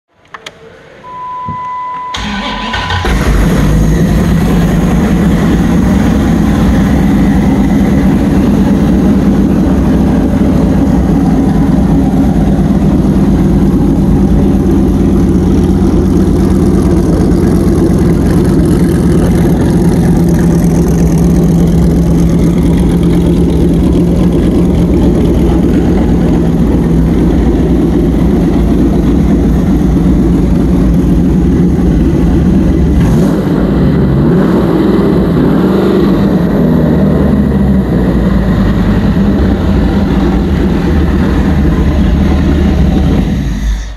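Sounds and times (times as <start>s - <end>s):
car engine idling: 2.1s - 43.9s.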